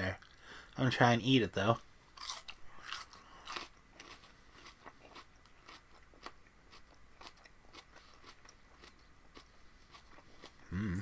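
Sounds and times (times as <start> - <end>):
faint chewing crunches: 2.2 - 11.0.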